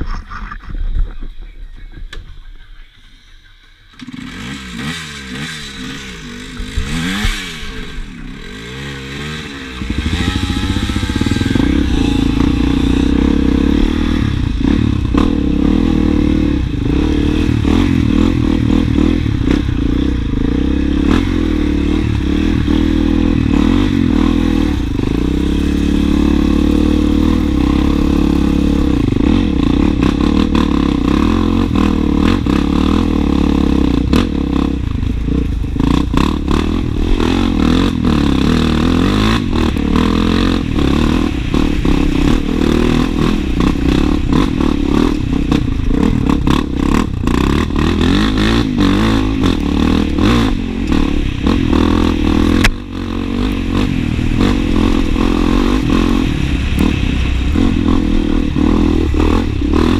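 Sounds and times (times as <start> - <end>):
dirt bike engine revving: 3.9 - 59.9.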